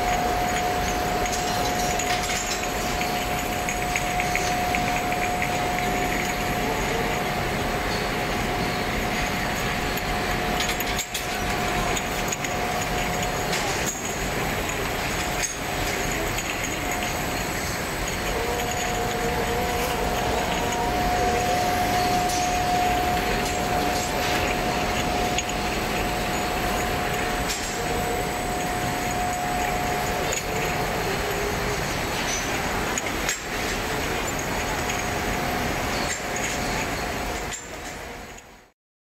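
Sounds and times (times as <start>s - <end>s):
glass bottles clinking: 0.0s - 38.5s
constant machine whine: 0.0s - 38.7s
machinery noise: 0.0s - 38.7s.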